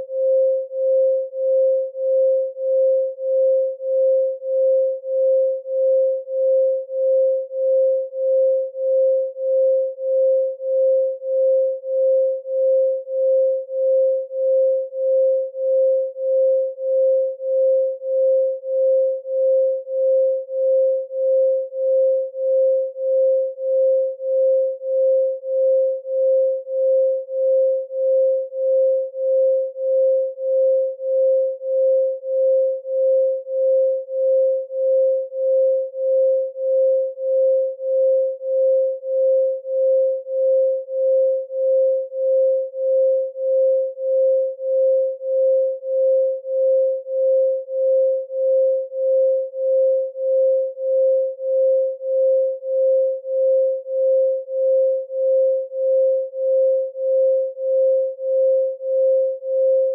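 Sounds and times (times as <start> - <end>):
pulsing sine tone: 0.0 - 59.9.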